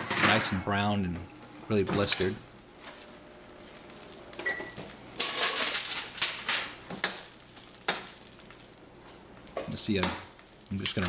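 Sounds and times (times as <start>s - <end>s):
aluminium foil crinkling: 2.1s - 11.0s.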